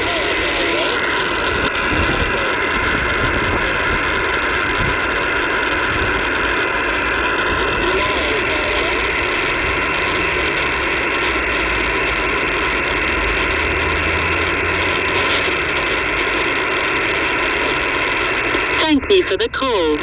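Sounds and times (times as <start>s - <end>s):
faint steady tone: 0.0s - 20.0s
shortwave radio static: 0.0s - 20.0s.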